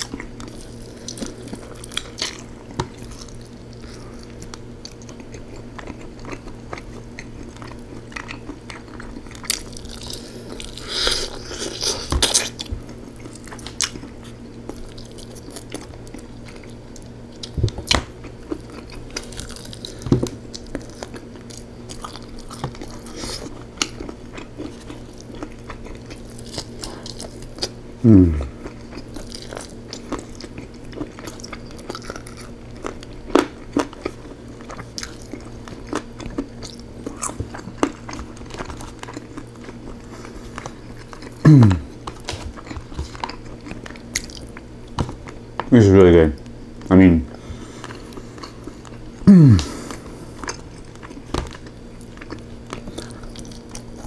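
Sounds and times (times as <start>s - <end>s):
close chewing with wet smacks: 0.0s - 27.8s, 28.6s - 45.7s, 47.8s - 54.0s
steady low hum: 0.0s - 54.0s.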